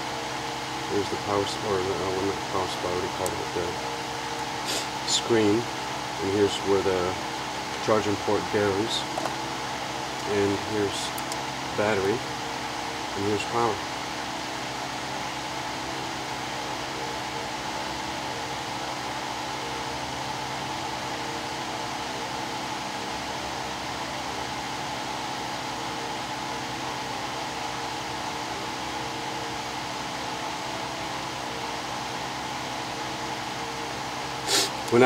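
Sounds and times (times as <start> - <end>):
constant tonal hum: 0.0 - 35.0
electric fan whirring: 0.0 - 35.0.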